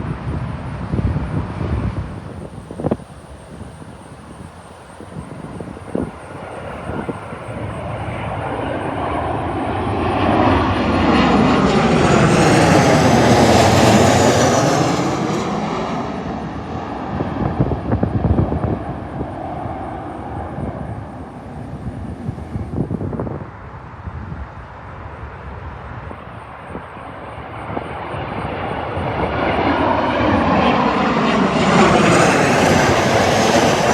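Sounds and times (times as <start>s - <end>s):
jet plane passing overhead: 0.0s - 33.9s
wind buffeting microphone: 0.0s - 33.9s.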